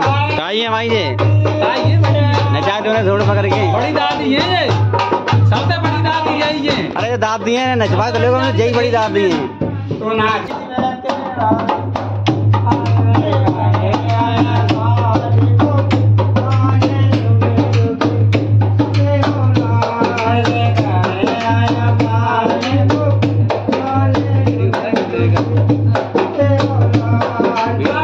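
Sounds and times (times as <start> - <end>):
dholak drum strokes: 0.0 - 28.0.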